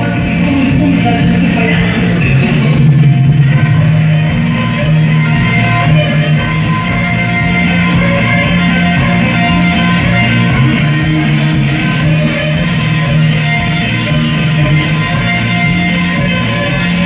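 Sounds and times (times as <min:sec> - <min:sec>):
loud guitar music with heavy bass: 0:00.0 - 0:17.0.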